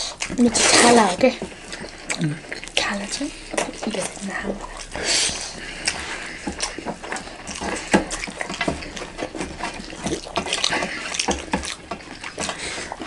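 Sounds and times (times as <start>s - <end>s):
chewing and mouth noises: 0.0s - 13.0s
fingers squishing food on metal plates: 0.0s - 13.0s.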